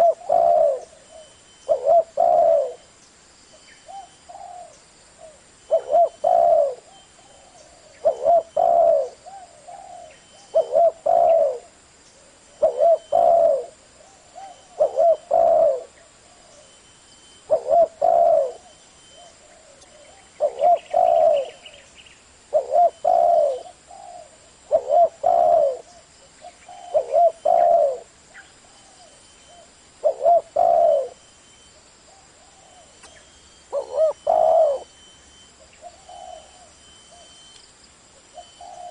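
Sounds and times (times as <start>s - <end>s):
dove cooing: 0.0s - 2.9s, 3.8s - 16.8s, 17.4s - 21.9s, 22.5s - 31.2s, 32.1s - 37.5s, 38.3s - 38.9s.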